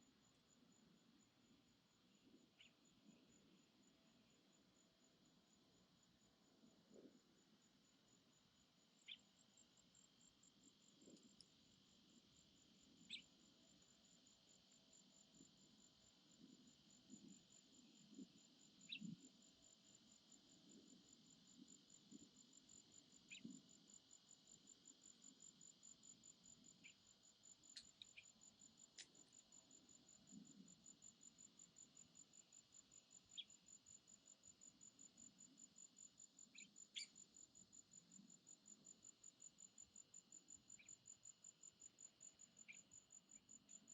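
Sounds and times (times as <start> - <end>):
pulsing insect chirp: 0.0 - 43.9.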